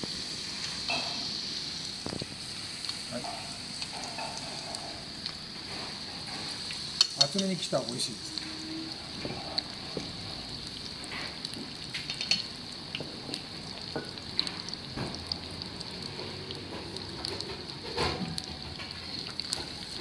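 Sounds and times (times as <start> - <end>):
food deep-frying in oil: 0.0 - 20.0.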